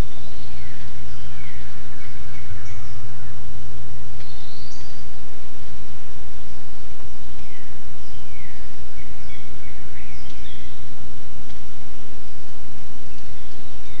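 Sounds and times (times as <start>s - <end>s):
birds chirping and calling: 0.0s - 5.4s, 7.2s - 12.0s, 12.9s - 14.0s
steady background hiss: 0.0s - 14.0s.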